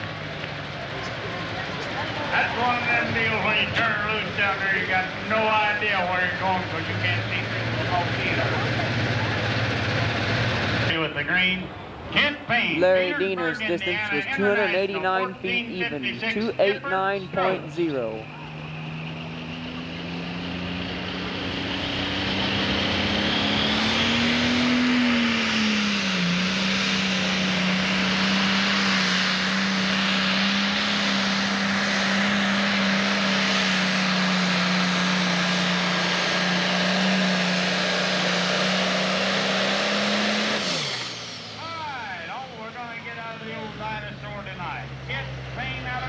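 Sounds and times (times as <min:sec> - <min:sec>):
diesel engine at full throttle: 0:00.0 - 0:46.0.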